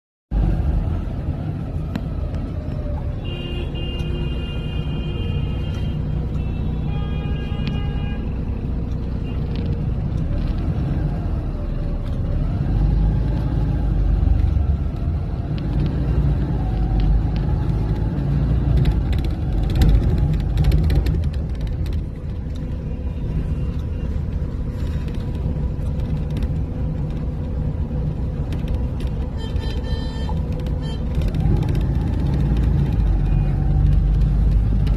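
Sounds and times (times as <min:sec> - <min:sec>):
road vehicle rumble: 0:00.3 - 0:34.9.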